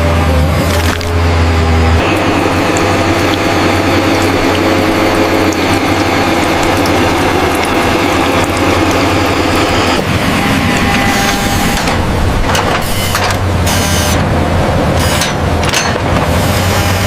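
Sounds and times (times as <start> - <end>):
machine rattling over low hum: 0.6 - 17.0.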